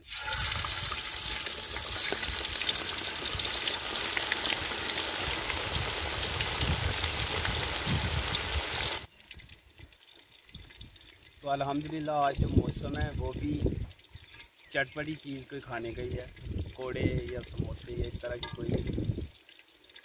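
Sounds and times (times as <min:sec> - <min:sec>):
chicken deep-frying in oil: 0:00.0 - 0:20.0.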